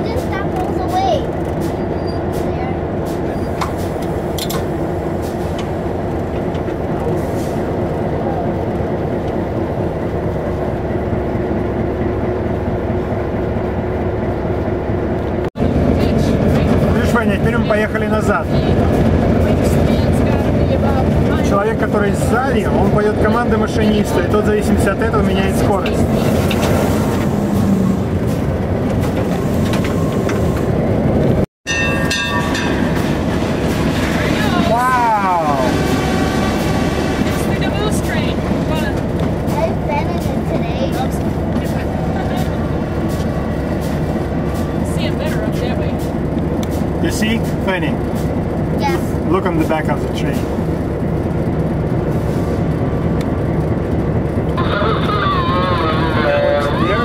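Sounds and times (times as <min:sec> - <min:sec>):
diesel locomotive engine drone: 0:00.0 - 0:57.0
wheels rumbling on rails: 0:00.0 - 0:57.0.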